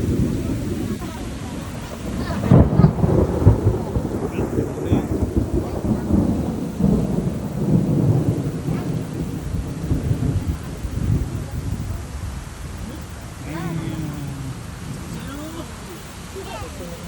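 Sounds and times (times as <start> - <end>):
rain falling: 0.0 - 17.0
thunder rumbling: 0.0 - 17.0.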